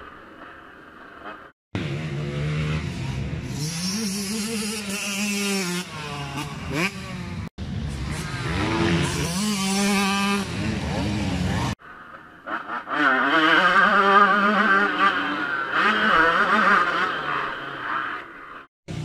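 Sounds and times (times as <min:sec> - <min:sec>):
motocross bike engine revving: 0:01.8 - 0:11.8, 0:12.5 - 0:18.2.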